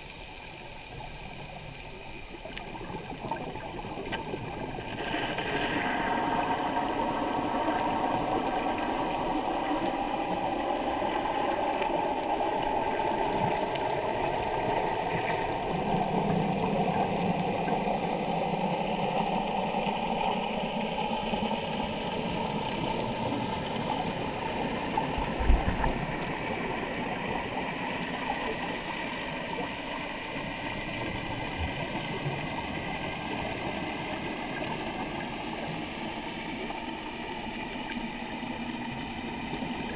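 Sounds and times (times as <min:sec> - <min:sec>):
faint motor hum: 0:00.0 - 0:39.9
underwater water noise: 0:00.0 - 0:39.9.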